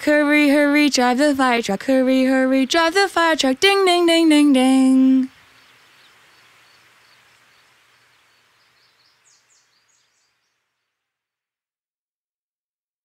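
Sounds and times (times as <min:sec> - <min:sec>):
faint hiss: 0:00.0 - 0:10.9.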